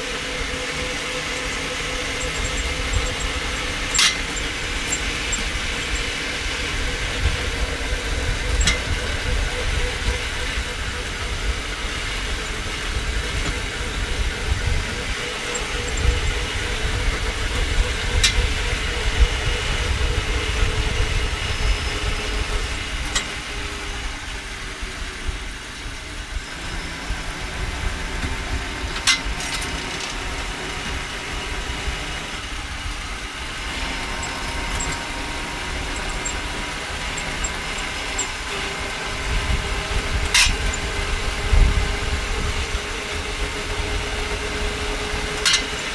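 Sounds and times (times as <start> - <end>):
electric motor hum: 0.0 - 45.9
wheels rumbling on rails: 0.0 - 45.9.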